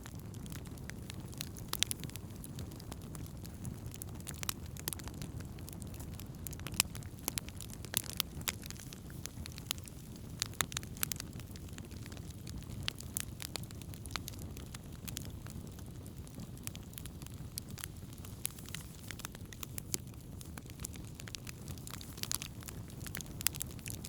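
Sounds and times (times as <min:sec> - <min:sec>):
campfire burning: 0:00.0 - 0:24.0
wood crackling and popping: 0:00.0 - 0:24.0.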